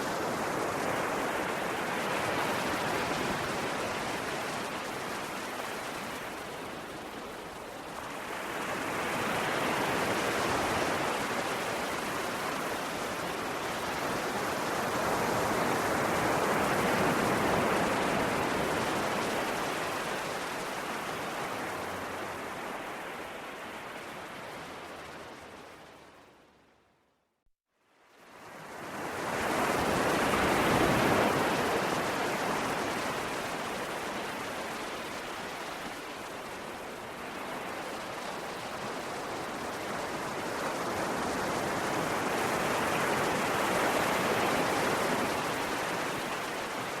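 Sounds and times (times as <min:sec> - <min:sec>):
sea waves washing onto shore: 0:00.0 - 0:26.0, 0:28.2 - 0:47.0.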